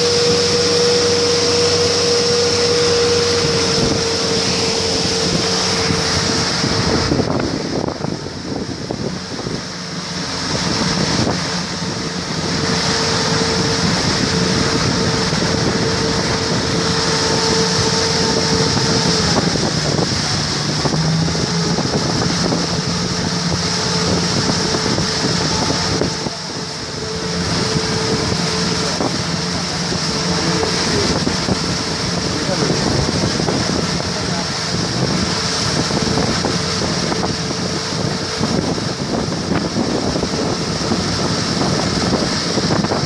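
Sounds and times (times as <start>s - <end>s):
motorboat engine hum: 0.0s - 43.0s
water rushing along hull: 0.0s - 43.0s
wind on microphone: 0.0s - 43.0s.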